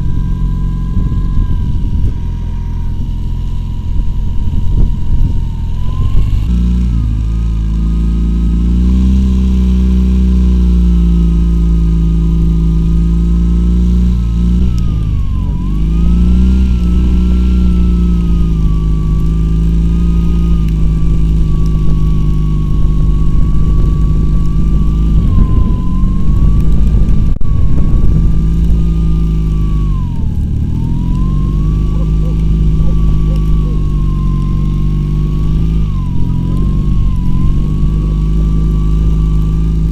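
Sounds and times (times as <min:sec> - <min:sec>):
engine revving under load: 0:00.0 - 0:39.9
high whine: 0:00.0 - 0:39.9.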